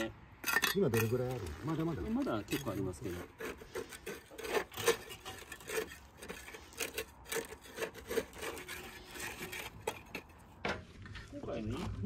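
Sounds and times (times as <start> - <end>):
tool scraping concrete mix: 0.0 - 12.0.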